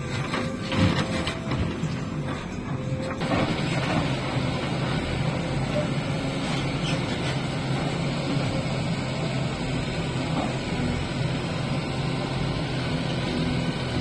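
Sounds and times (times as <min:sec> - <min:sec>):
backhoe diesel engine droning: 0:00.0 - 0:14.0
tractor diesel engine running: 0:00.0 - 0:14.0.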